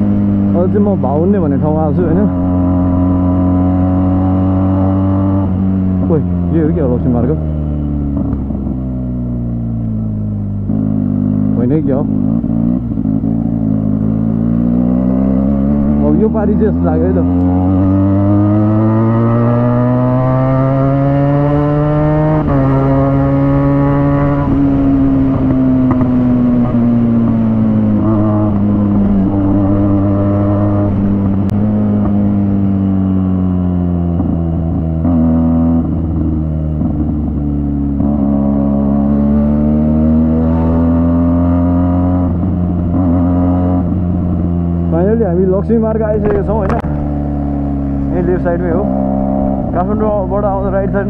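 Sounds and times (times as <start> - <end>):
motorcycle engine accelerating: 0.0 - 51.0.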